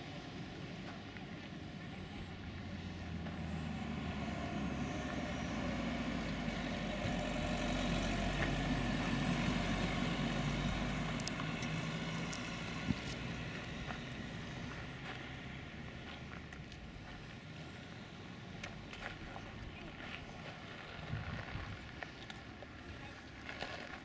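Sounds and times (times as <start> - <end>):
vehicle engine passing: 0.0 - 23.7.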